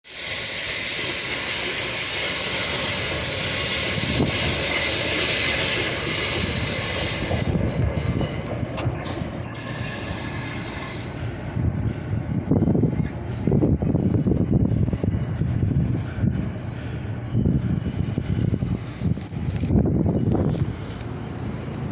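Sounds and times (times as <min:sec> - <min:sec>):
train wheels squealing: 0:00.0 - 0:21.9
train rumble: 0:00.1 - 0:21.9.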